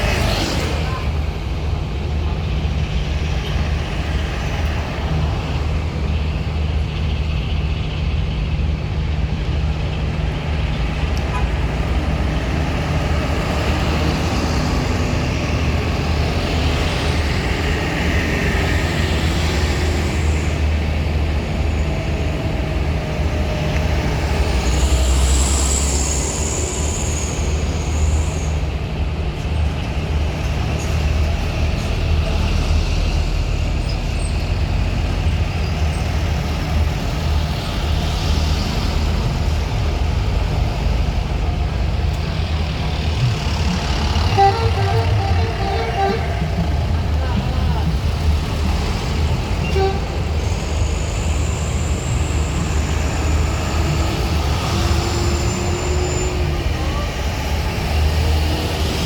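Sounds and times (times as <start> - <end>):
heavy engines droning: 0.0 - 59.0.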